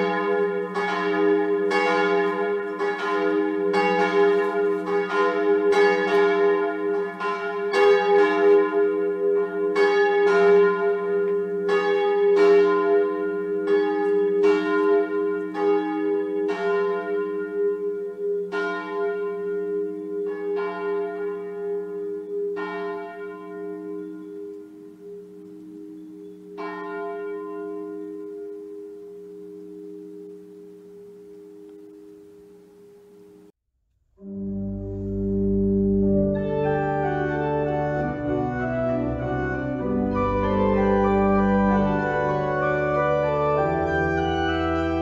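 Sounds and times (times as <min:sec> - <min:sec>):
church bells ringing: 0:00.0 - 0:33.4, 0:34.2 - 0:45.0.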